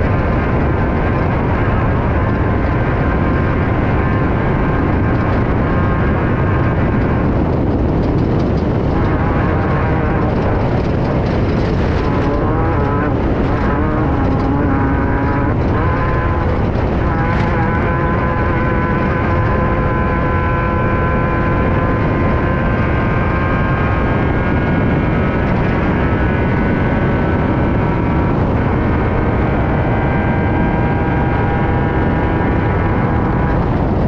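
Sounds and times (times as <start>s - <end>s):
race car engine running hard: 0.0s - 34.0s
steady rush of noise: 0.0s - 34.0s.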